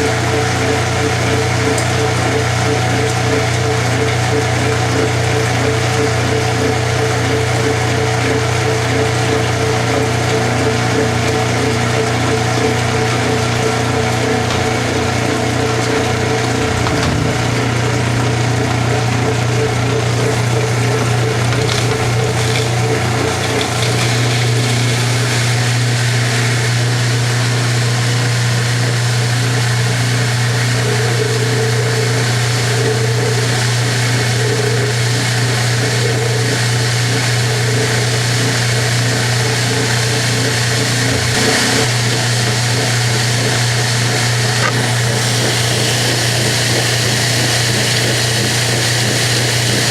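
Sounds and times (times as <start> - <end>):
washing machine motor hum and rattle: 0.0 - 49.9.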